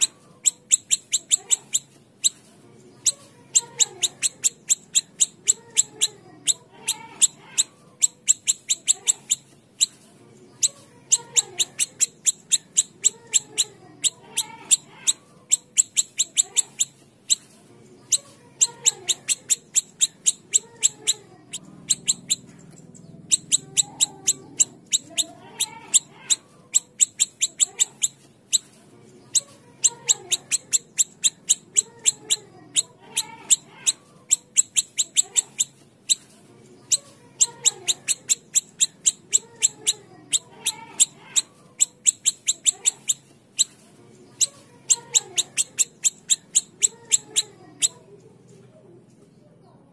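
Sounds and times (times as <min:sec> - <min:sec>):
bird ticking calls: 0:00.0 - 0:02.4, 0:03.0 - 0:10.0, 0:11.1 - 0:17.4, 0:18.1 - 0:28.6, 0:29.4 - 0:36.2, 0:36.9 - 0:43.8, 0:44.4 - 0:48.0.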